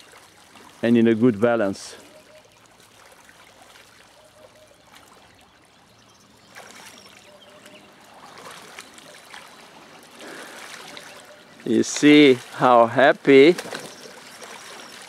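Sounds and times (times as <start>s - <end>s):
birds splashing in water: 0.0s - 15.0s
shallow river trickling over gravel: 0.0s - 15.0s.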